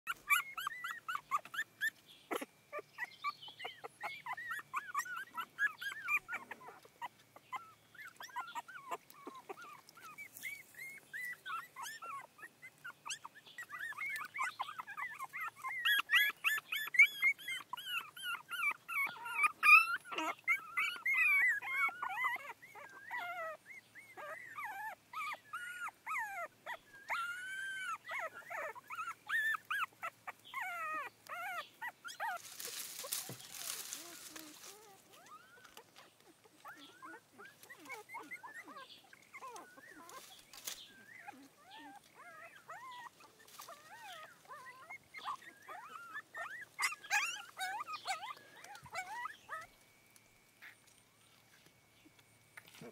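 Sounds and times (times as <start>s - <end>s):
puppies whimpering and crying: 0.0s - 52.9s.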